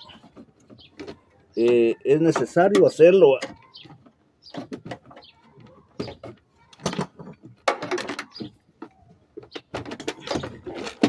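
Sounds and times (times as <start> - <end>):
plastic parts clicking and rattling: 0.0 - 11.0.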